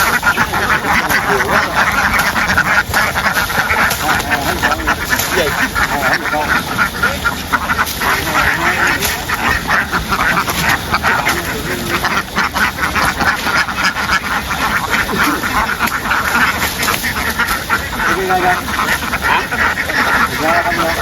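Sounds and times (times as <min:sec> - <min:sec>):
flock of ducks quacking: 0:00.0 - 0:21.0.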